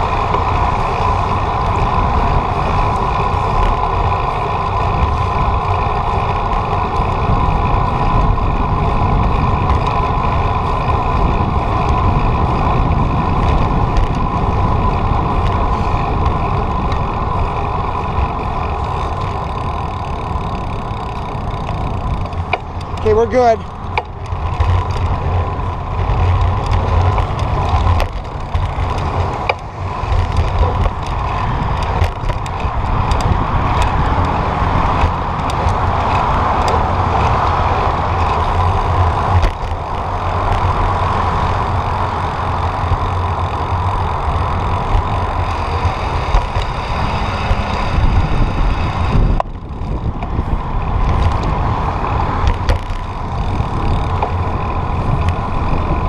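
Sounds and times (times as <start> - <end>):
passing motor traffic: 0.0 - 56.0
wind buffeting microphone: 0.0 - 56.0.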